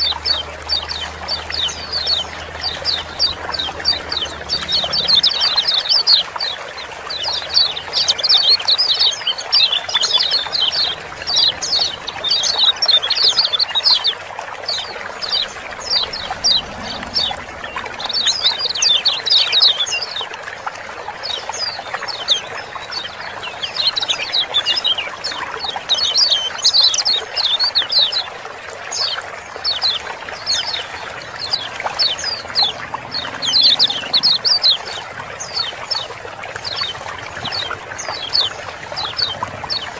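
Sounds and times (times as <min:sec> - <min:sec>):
birds chattering calls: 0:00.0 - 0:20.4, 0:21.2 - 0:39.9
running water: 0:00.0 - 0:39.9.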